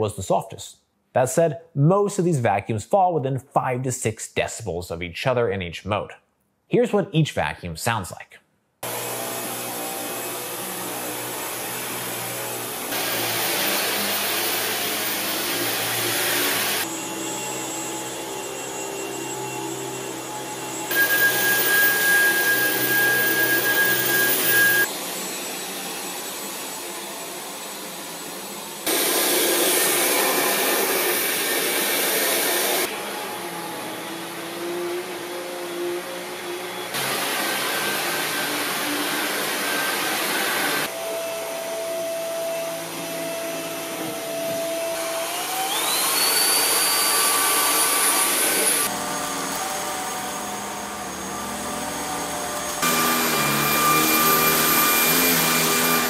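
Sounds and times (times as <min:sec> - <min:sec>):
stick vacuum running on carpet: 0:08.8 - 0:56.0
vacuum motor whine: 0:08.8 - 0:56.0.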